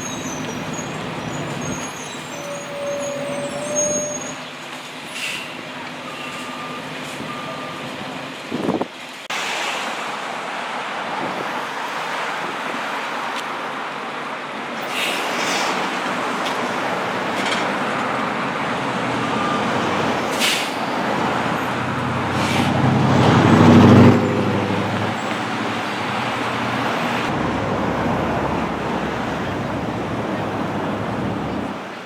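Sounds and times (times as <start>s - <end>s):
heavy vehicle engine: 0.0s - 8.5s, 14.6s - 32.0s
road traffic passing: 0.0s - 32.0s.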